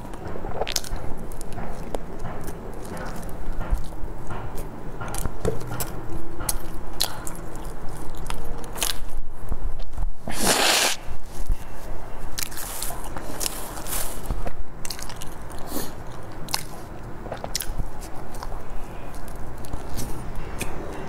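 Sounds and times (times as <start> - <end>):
chewing with mouth clicks: 0.0 - 10.6, 12.3 - 21.0.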